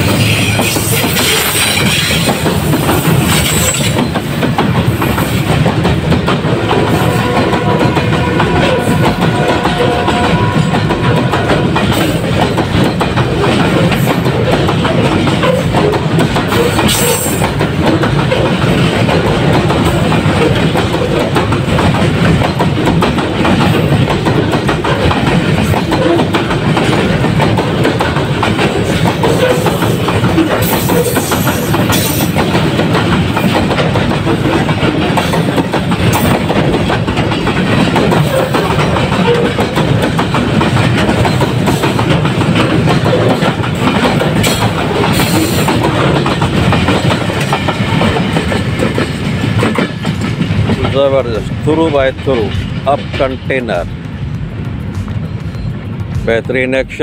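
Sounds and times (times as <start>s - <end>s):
freight wagons rumbling and clattering: 0.0s - 57.0s.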